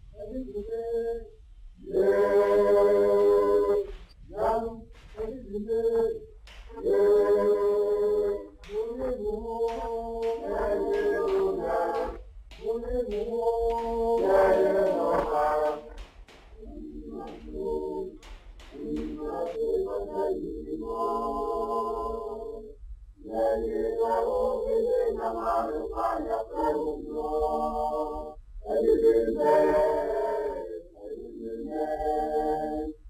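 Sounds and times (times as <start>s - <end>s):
group of voices singing: 0.2s - 33.0s.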